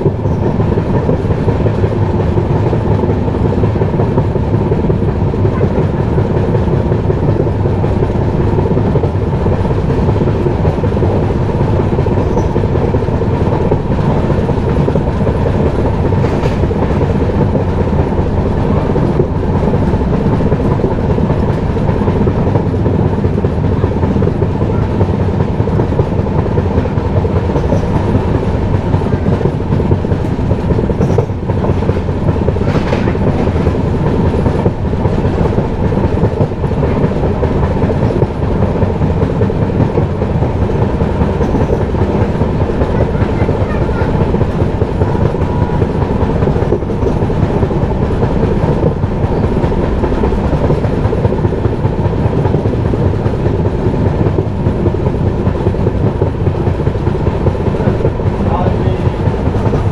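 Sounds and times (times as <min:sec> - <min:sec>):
train coaches rumbling: 0:00.0 - 0:59.9
wheels clattering over rails: 0:00.0 - 0:59.9.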